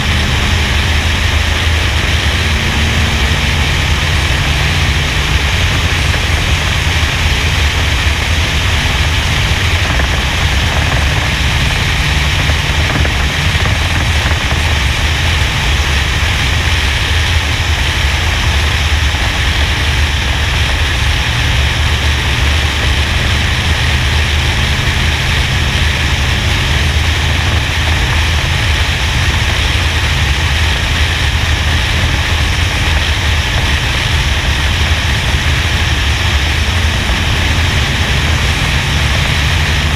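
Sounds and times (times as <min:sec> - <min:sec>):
race car engine drone: 0:00.0 - 0:39.9
wind rush on microphone: 0:00.0 - 0:39.9.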